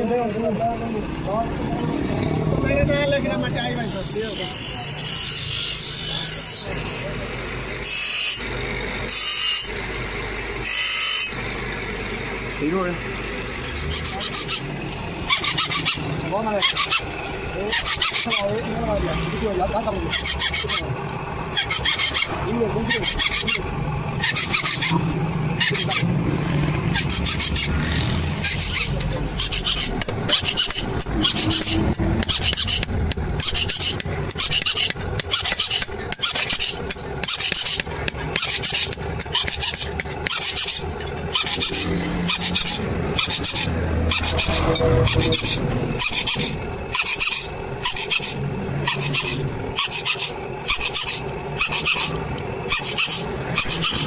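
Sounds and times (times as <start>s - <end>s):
low engine-like rumble: 0.0s - 4.0s, 11.3s - 54.0s
file rasping on metal blade: 3.8s - 9.9s, 10.6s - 11.6s, 13.5s - 54.0s.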